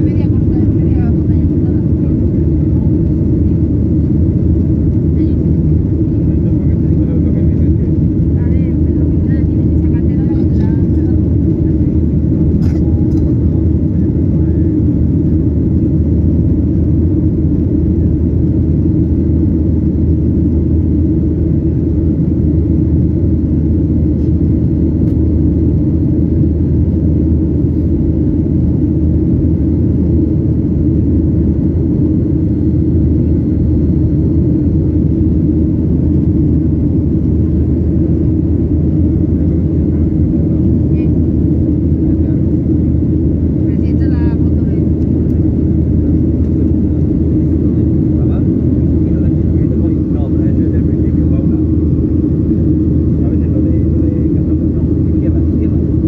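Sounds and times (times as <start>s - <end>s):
airflow rushing over fuselage: 0.0s - 56.0s
airplane cabin engine rumble: 0.0s - 56.0s.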